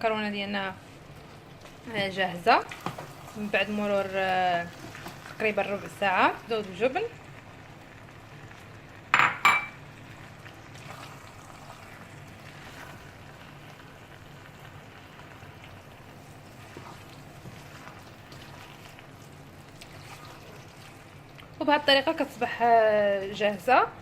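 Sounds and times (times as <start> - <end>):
food sizzling in a pot: 0.8 - 24.0.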